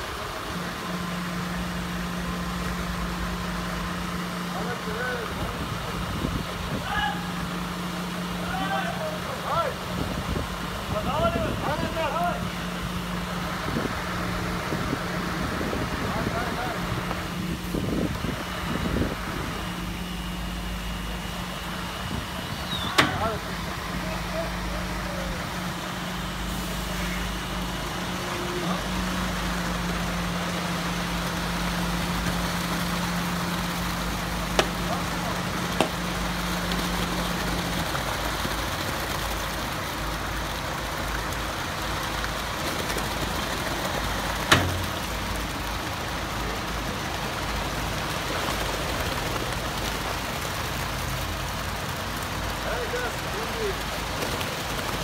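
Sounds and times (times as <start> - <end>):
wet concrete pouring down chute: 0.0 - 55.0.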